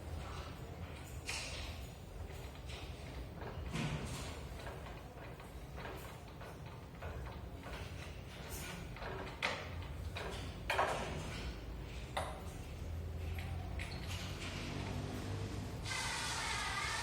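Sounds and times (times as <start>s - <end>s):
knocks and clatters: 0.2s - 15.4s.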